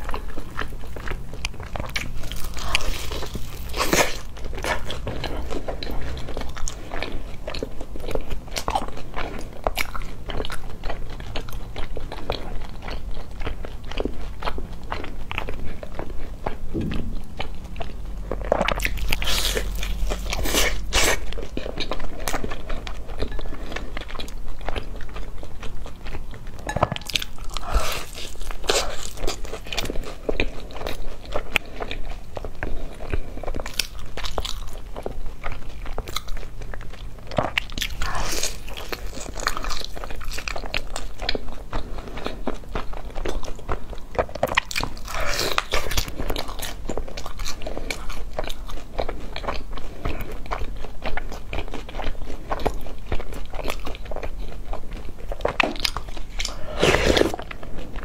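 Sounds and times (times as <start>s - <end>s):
crispy food crunching: 0.0s - 58.0s
wet chewing: 0.0s - 58.0s.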